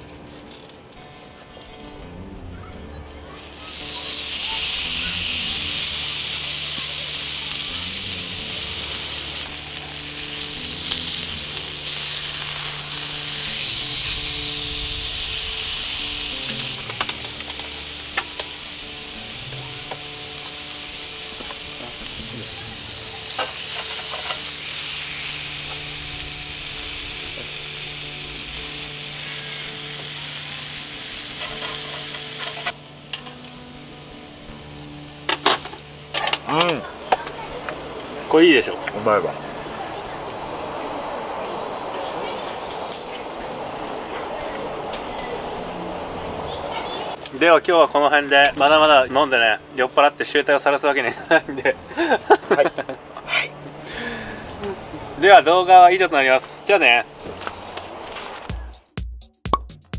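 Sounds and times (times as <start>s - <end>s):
steak sizzling on griddle: 3.3s - 58.6s.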